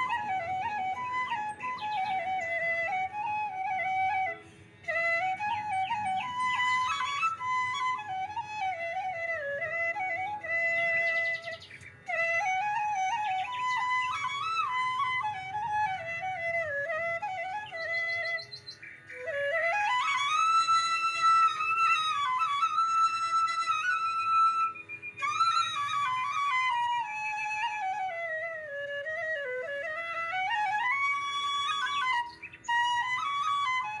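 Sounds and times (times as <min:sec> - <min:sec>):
winding melody with sliding notes: 0:00.0 - 0:28.2.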